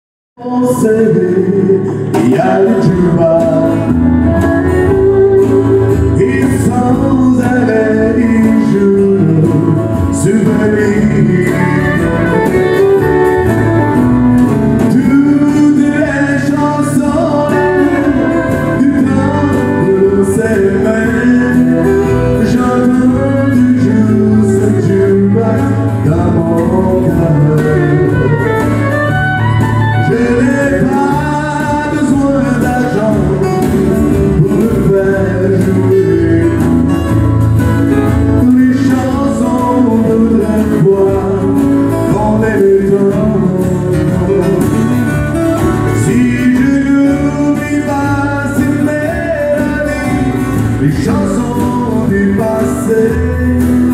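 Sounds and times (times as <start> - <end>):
backing guitar: 0.4 - 53.9
man singing into microphone: 0.4 - 53.9
strummed acoustic guitar: 0.4 - 53.9.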